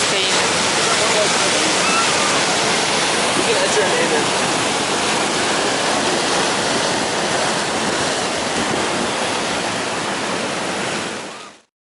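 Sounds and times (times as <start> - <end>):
surf washing against rocks: 0.0 - 11.7.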